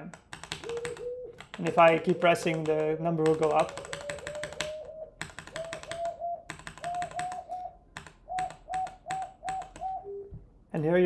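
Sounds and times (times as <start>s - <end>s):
keyboard key presses: 0.1s - 10.0s.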